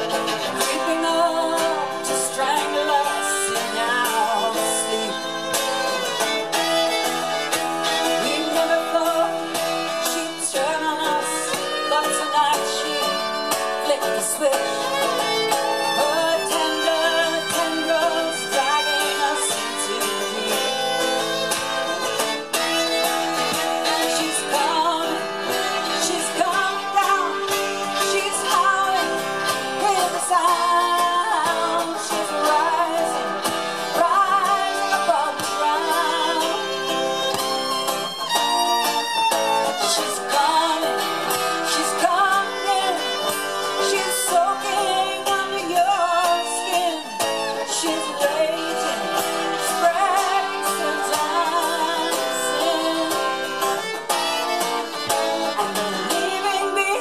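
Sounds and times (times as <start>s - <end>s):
acoustic guitar: 0.0s - 57.0s
fiddle: 0.0s - 57.0s
woman singing: 0.0s - 57.0s.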